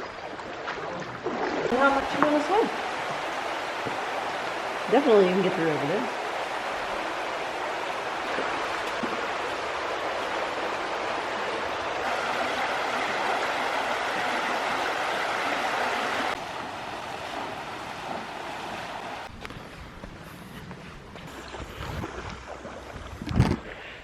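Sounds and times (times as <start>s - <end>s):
creek water rushing: 0.0s - 19.5s.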